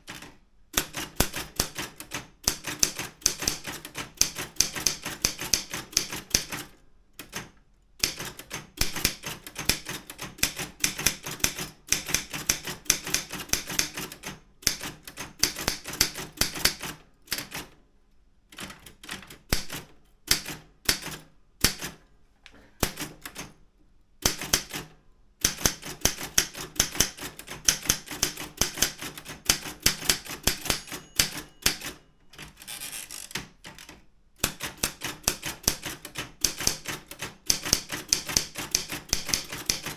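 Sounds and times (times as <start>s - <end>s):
typewriter key strikes: 0.1s - 17.6s, 24.2s - 39.9s.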